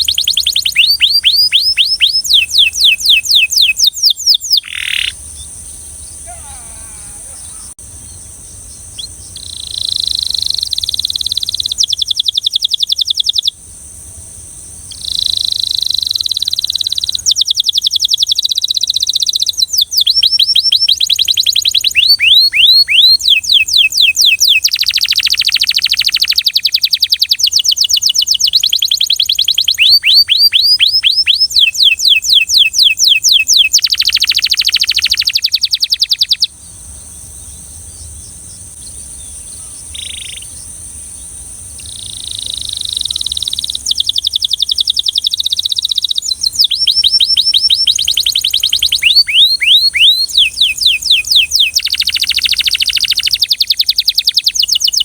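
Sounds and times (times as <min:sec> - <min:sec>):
canary singing fast trills: 0:00.0 - 0:55.0.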